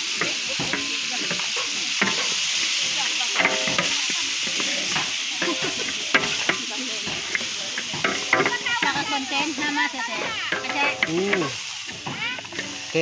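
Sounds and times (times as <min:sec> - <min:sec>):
food sizzling in a pan: 0:00.0 - 0:13.0
people chattering: 0:00.0 - 0:13.0.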